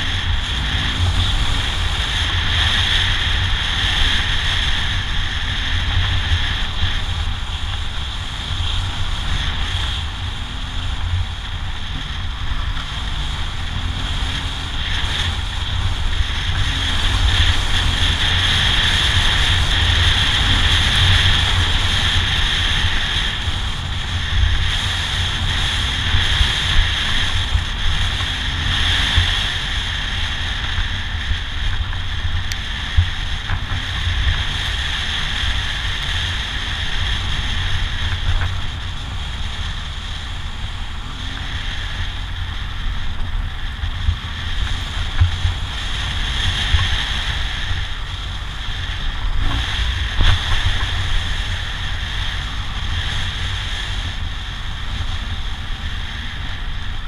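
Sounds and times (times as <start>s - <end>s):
motorcycle engine rumble: 0.0s - 57.0s
wind rushing over microphone: 0.0s - 57.0s.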